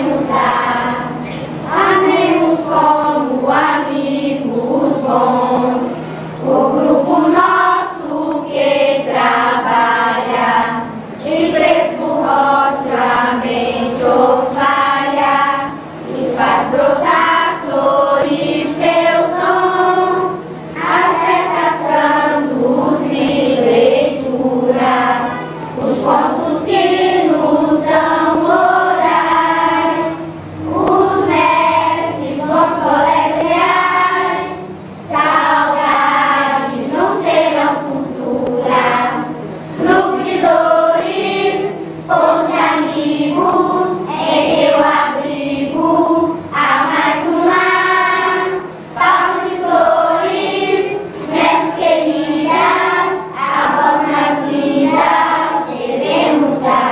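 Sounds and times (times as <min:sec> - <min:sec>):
children's choir singing: 0:00.0 - 0:56.9.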